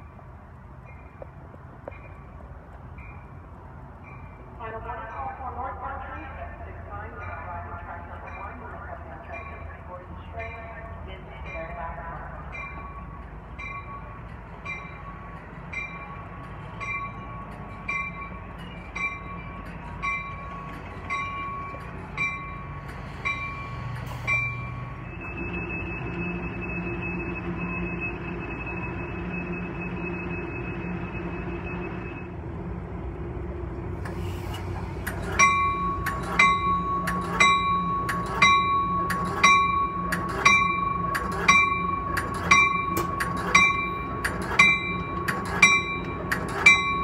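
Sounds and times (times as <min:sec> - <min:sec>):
train running with whine and hum: 0:00.0 - 0:47.0
train bell ringing: 0:00.8 - 0:05.9, 0:06.9 - 0:32.4, 0:35.1 - 0:47.0.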